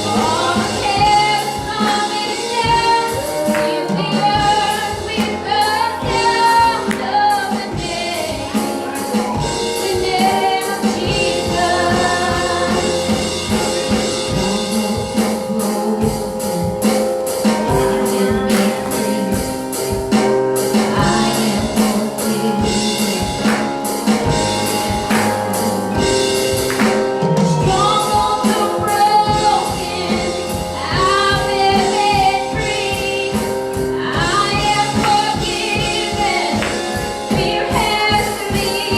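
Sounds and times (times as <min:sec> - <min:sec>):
gospel singing over band: 0:00.0 - 0:38.9.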